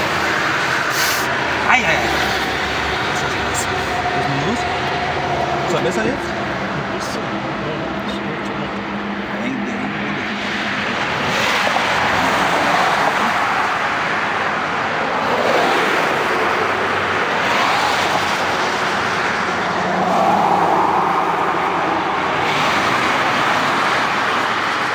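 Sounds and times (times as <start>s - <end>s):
highway traffic passing: 0.0s - 24.9s.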